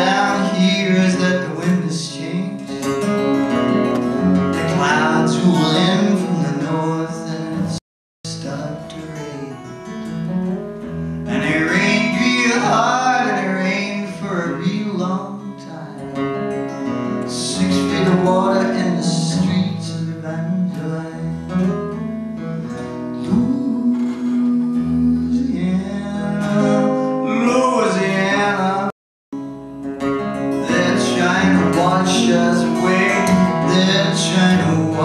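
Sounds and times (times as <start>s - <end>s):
fingerpicked acoustic guitar: 0.0s - 35.0s.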